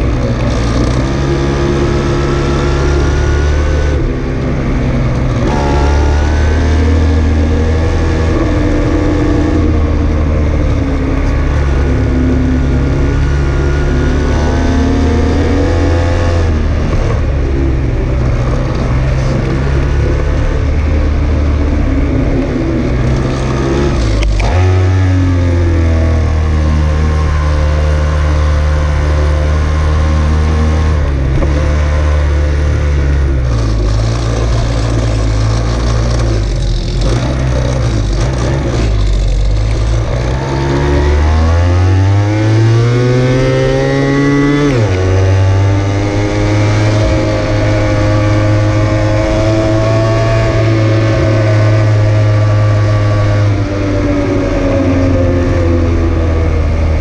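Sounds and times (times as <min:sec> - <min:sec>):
road and wind noise: 0:00.0 - 0:57.0
vehicle engine accelerating: 0:00.0 - 0:57.0.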